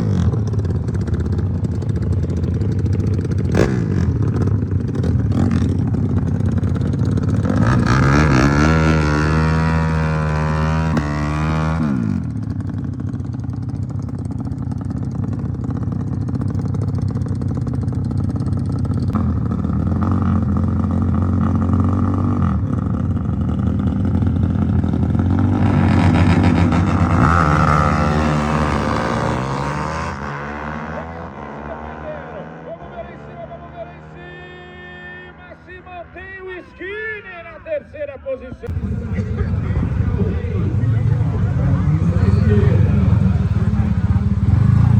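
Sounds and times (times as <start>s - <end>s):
motorcycle engines revving: 0.0s - 36.4s, 38.6s - 44.9s.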